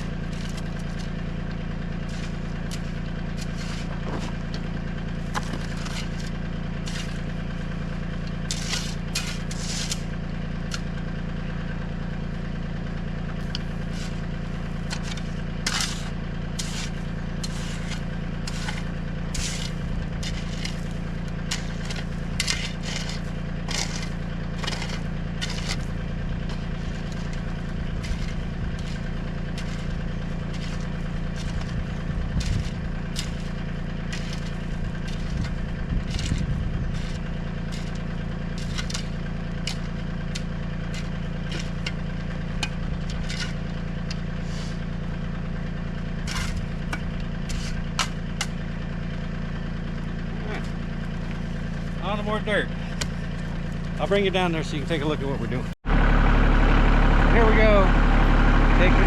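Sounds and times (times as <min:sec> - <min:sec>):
clicks of scraped dirt and stones: 0:00.0 - 0:11.1, 0:13.4 - 0:55.6
tractor engine running: 0:00.0 - 0:59.0.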